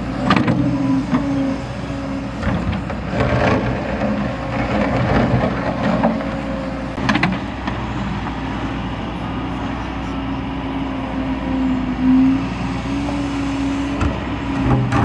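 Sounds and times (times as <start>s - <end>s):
excavator diesel engine and hydraulics: 0.0s - 15.0s.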